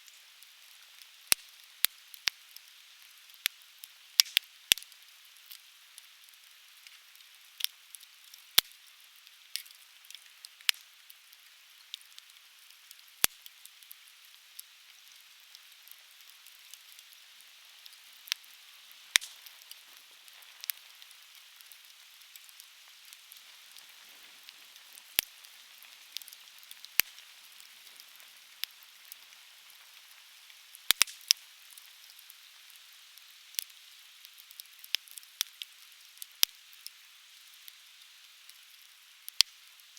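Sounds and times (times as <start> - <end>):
faint steady hiss: 0.0 - 39.9
firewood crackling and popping: 0.0 - 39.9.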